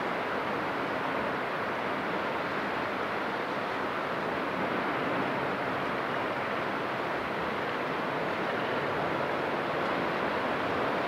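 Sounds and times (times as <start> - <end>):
waves washing along shore: 0.0 - 11.0.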